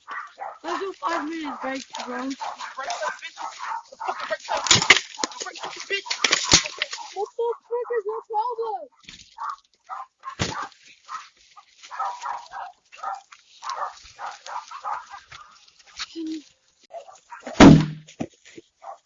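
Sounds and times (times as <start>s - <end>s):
dog barking and yelping: 0.0s - 15.7s, 16.9s - 17.6s, 18.8s - 19.0s.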